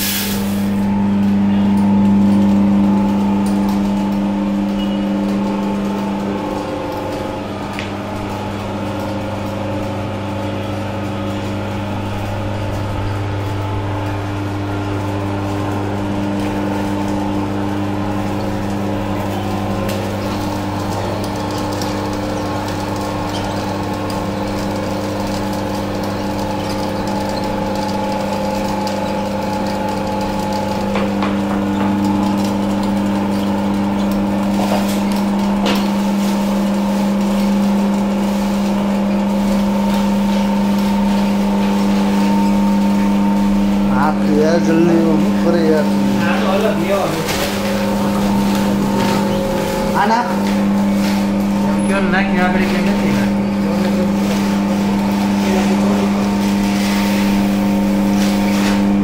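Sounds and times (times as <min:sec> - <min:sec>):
oil press motor hum: 0:00.0 - 0:59.0.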